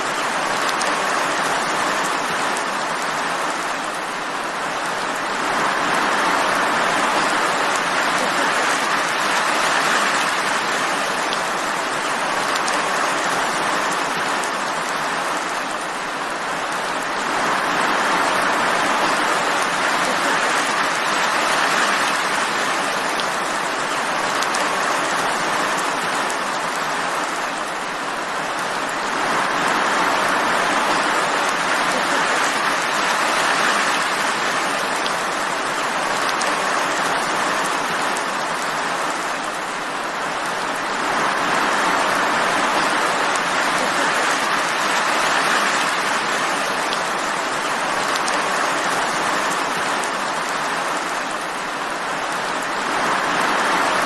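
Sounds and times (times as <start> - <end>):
scattered raindrops: 0.0 - 54.0
steady rain falling: 0.0 - 54.0.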